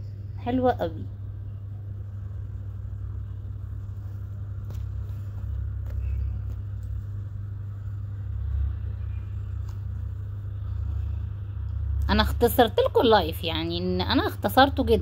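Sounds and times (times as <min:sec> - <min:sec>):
low room noise rumble: 0:00.0 - 0:15.0.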